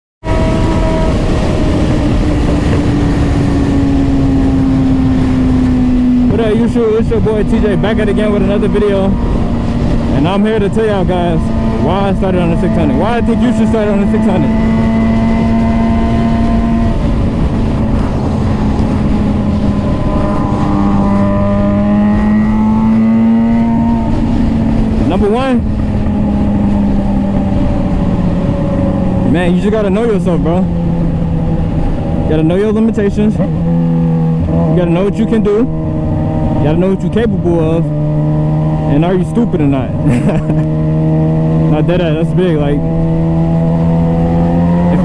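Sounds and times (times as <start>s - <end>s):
heavy low rumble: 0.2s - 45.0s
motorcycle engine running: 0.2s - 45.0s
wind noise: 0.2s - 45.0s.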